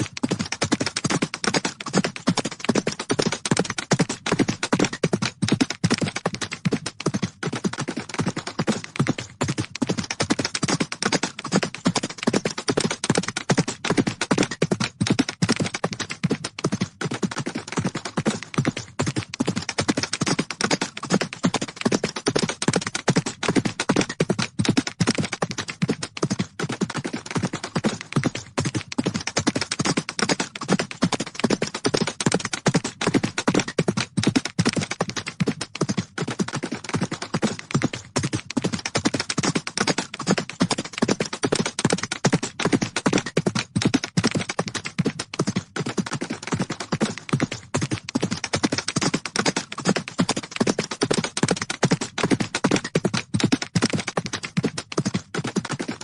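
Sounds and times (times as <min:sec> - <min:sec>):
horses galloping: 0:00.0 - 0:56.0.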